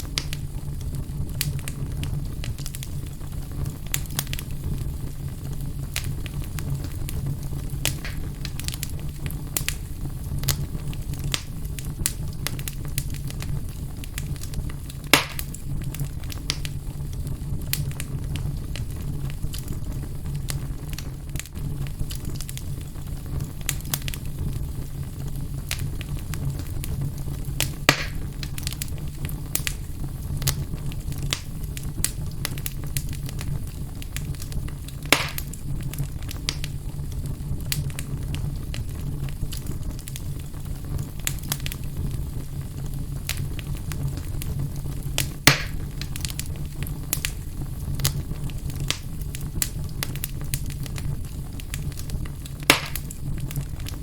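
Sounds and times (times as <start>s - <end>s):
fire crackling and popping: 0.0s - 54.0s
fire low rumble: 0.0s - 54.0s.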